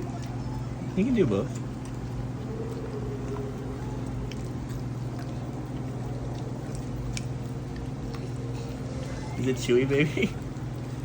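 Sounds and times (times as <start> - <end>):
steady low hum: 0.0 - 11.0
wolf chewing food: 0.0 - 11.0.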